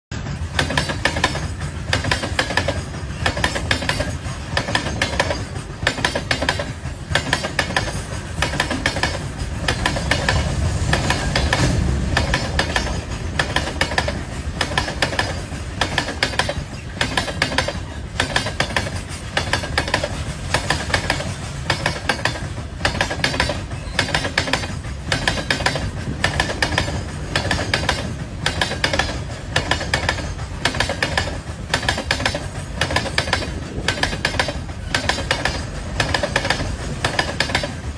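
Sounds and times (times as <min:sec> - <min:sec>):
low rumble of moving train: 0:00.1 - 0:37.9
train wheels clacking over joints: 0:00.1 - 0:37.9.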